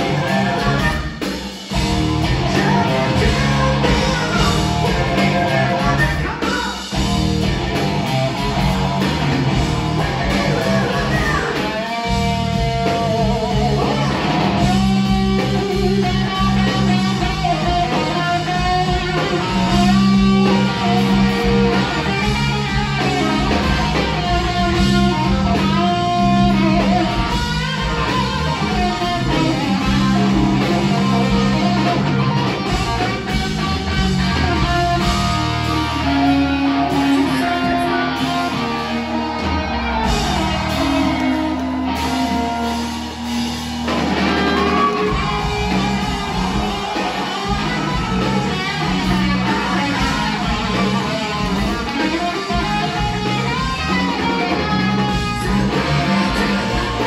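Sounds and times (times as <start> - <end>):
bass guitar: 0.0 - 57.0
drums: 0.0 - 57.0
electric guitar lines: 0.0 - 57.0.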